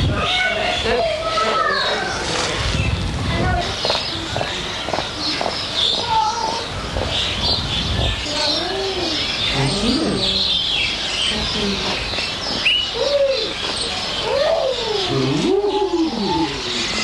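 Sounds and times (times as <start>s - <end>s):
birds calling and chirping: 0.0s - 17.0s
busy background noise: 0.0s - 17.0s.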